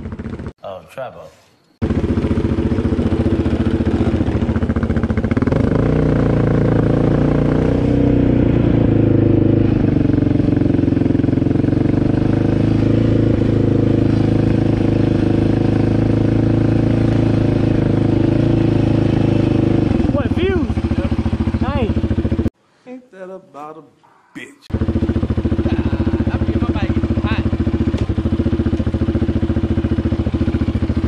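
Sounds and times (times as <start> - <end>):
off-road vehicle engine running: 0.0 - 0.6, 1.8 - 22.5, 24.7 - 31.0.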